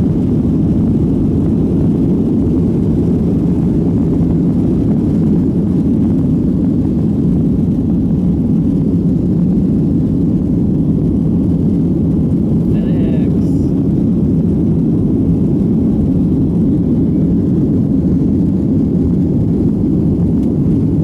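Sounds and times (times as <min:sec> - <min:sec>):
jet engines rumbling in cabin: 0:00.0 - 0:21.0.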